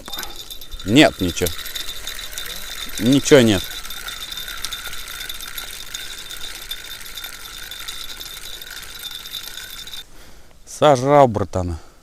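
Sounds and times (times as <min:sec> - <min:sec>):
fishing reel whirring: 0:00.0 - 0:10.0.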